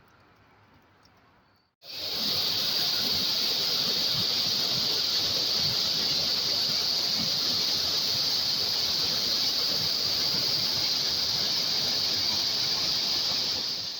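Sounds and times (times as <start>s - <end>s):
waterfall rushing: 1.8s - 13.9s.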